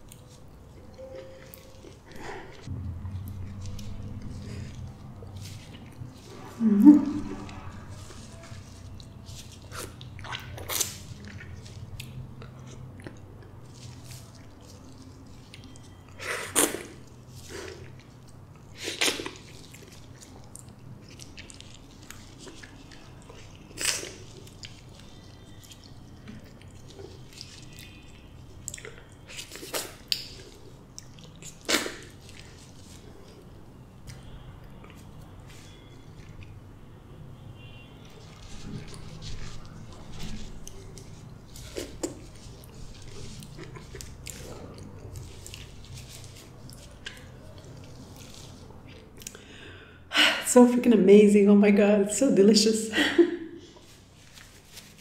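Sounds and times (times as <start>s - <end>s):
wet chewing: 0.0s - 37.0s, 37.6s - 49.6s.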